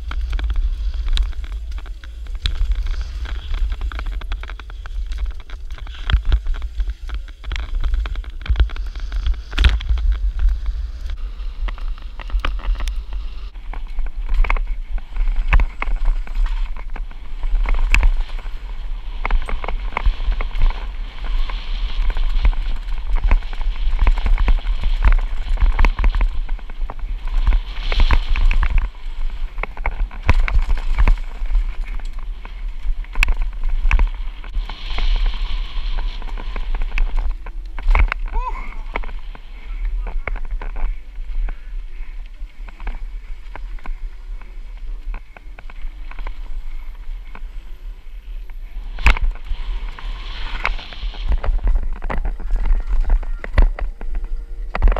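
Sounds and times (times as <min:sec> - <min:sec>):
bike rattling and knocking: 0:00.0 - 0:47.7, 0:48.9 - 0:54.9
tyres crunching on gravel: 0:00.0 - 0:54.9
wind rumble on microphone: 0:00.0 - 0:54.9.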